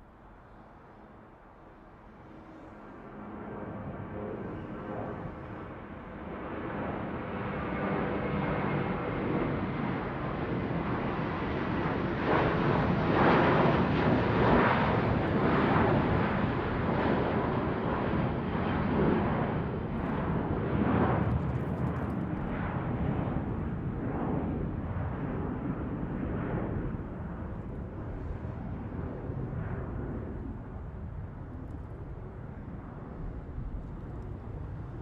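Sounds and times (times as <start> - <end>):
airplane flying overhead: 0.0 - 35.0.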